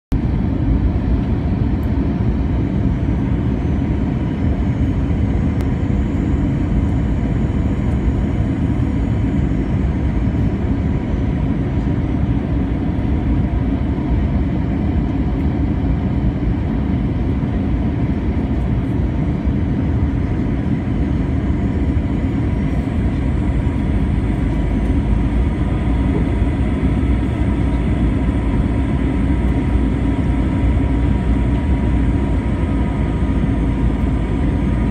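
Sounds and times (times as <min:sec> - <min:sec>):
jet engine and rushing air: 0:00.1 - 0:34.9.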